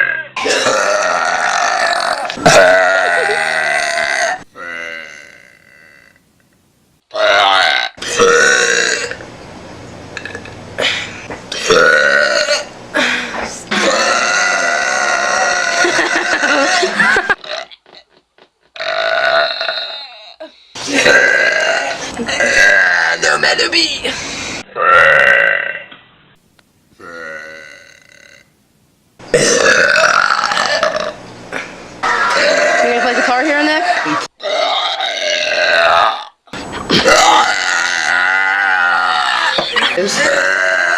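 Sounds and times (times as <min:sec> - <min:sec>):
woman burping loudly: 0:00.0 - 0:06.2, 0:07.1 - 0:09.2, 0:10.2 - 0:18.2, 0:18.8 - 0:24.2, 0:24.8 - 0:25.9, 0:27.0 - 0:28.5, 0:29.3 - 0:40.9.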